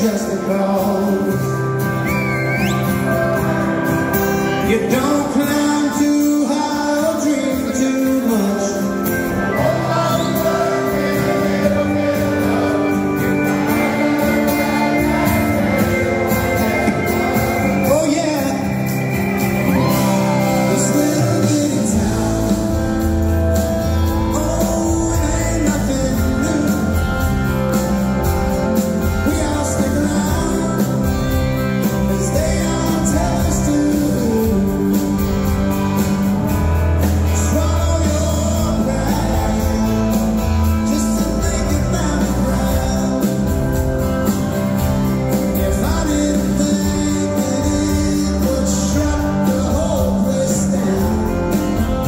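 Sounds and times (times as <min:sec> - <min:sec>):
lead vocal singing: 0:00.0 - 0:52.0
live rock band playing: 0:00.0 - 0:52.0.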